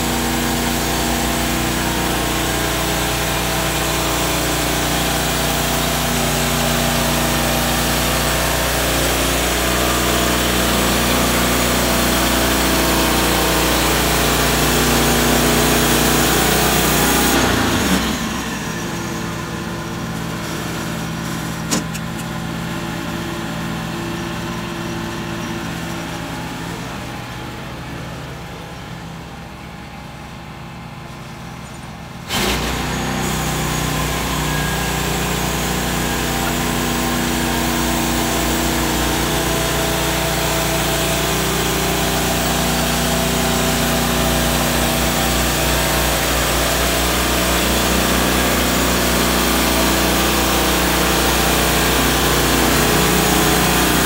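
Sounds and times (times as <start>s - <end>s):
band saw cutting log: 0.0s - 26.8s, 32.2s - 54.0s
petrol engine revving: 0.0s - 54.0s.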